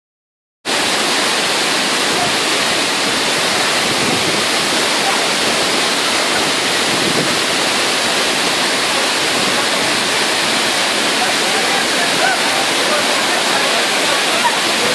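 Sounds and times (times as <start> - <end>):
waterfall rushing: 0.7 - 14.9.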